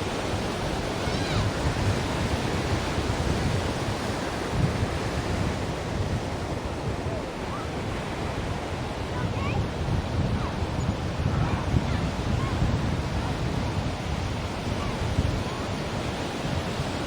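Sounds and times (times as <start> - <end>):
ocean surf: 0.0 - 17.0.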